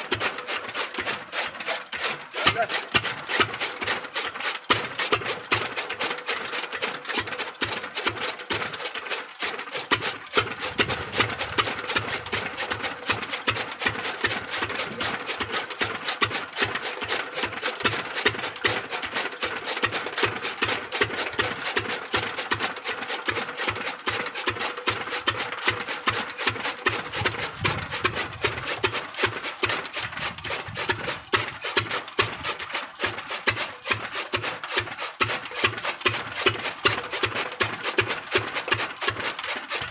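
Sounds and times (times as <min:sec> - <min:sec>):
pump engine running: 0:00.0 - 0:39.9.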